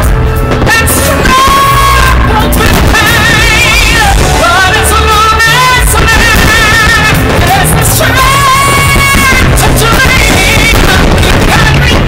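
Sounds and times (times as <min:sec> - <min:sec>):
singer holding long notes: 0:00.0 - 0:12.0
steady bass line: 0:00.0 - 0:12.0.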